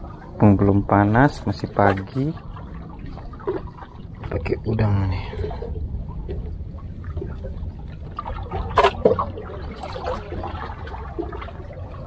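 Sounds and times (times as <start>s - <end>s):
sea water sloshing and trickling: 0.0s - 12.0s
steady low rumble: 0.0s - 12.0s.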